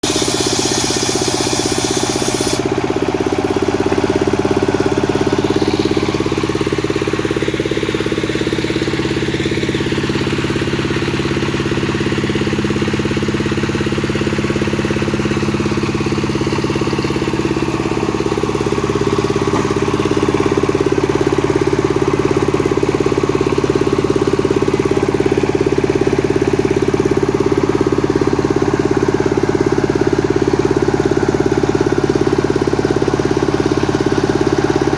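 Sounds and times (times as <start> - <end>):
chainsaw running: 0.0 - 34.9.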